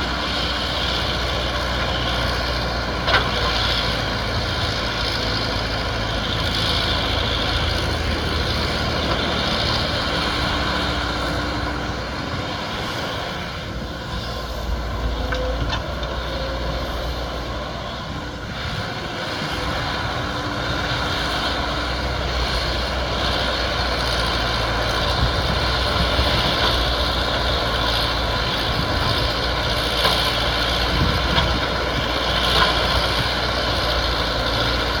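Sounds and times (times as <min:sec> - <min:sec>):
excavator diesel engine: 0:00.0 - 0:35.0.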